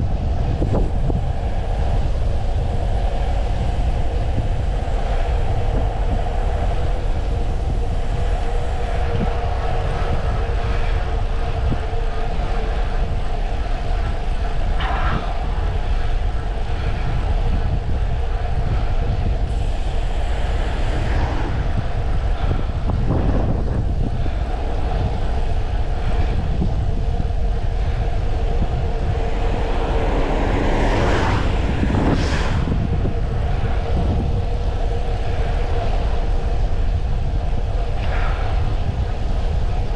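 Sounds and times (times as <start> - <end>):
bicycle road noise: 0.0 - 39.9
steady hum: 0.0 - 39.9
wind rushing over microphone: 0.0 - 39.9.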